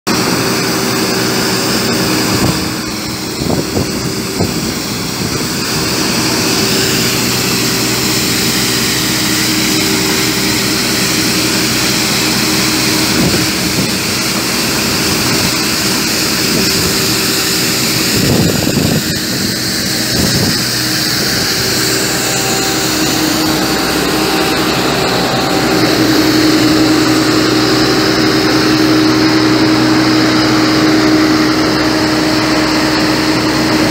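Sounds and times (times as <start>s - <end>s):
sweeper engine running: 0.1s - 33.9s.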